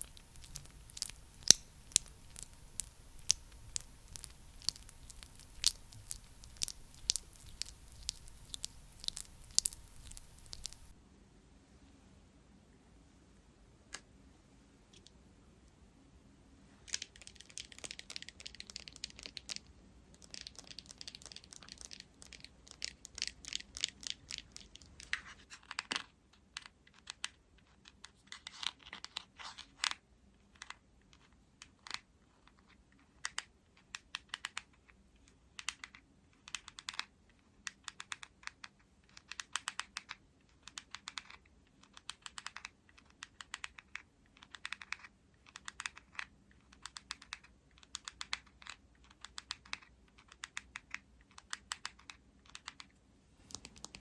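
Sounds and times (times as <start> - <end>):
sticky tapping and clicking: 0.0 - 11.0, 16.8 - 54.0.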